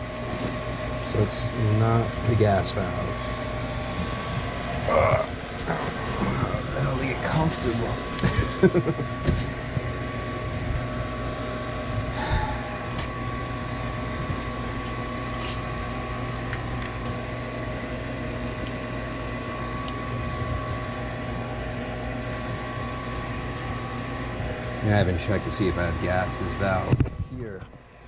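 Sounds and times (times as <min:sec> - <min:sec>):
furnace inducer motor humming: 0:00.0 - 0:28.0.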